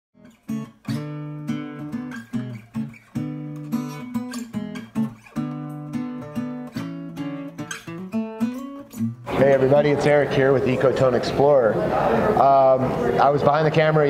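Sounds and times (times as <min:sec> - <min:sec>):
strummed guitar chords: 0:00.2 - 0:13.0.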